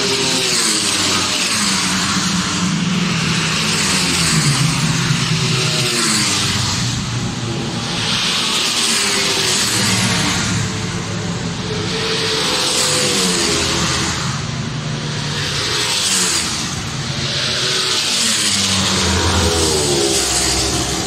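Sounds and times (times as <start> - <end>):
motorcycles passing at speed: 0.0 - 21.0.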